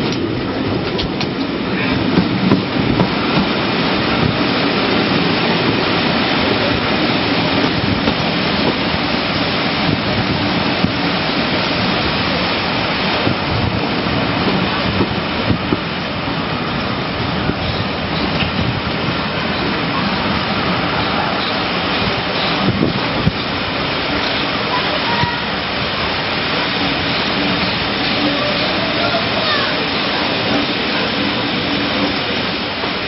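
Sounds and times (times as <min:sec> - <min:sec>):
train coaches rushing on track: 0:00.0 - 0:33.0
wind on microphone: 0:00.0 - 0:33.0.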